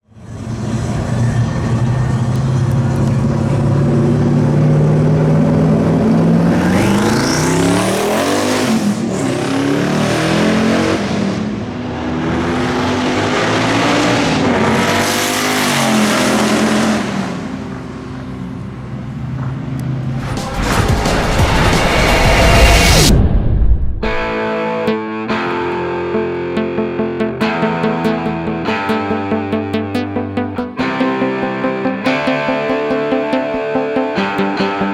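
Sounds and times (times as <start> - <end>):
race cars accelerating: 0.1 - 23.2, 25.5 - 34.9.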